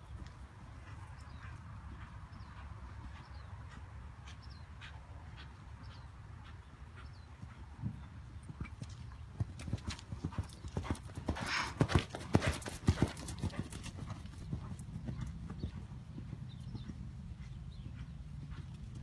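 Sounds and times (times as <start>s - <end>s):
horse hooves cantering on sand: 0.0s - 19.0s.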